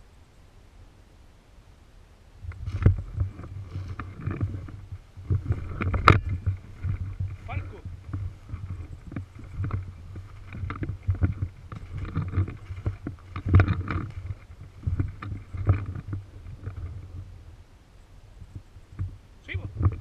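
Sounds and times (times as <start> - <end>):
low rumbling microphone noise: 0.0 - 20.0
knocks and rustles: 2.4 - 17.3, 18.5 - 20.0.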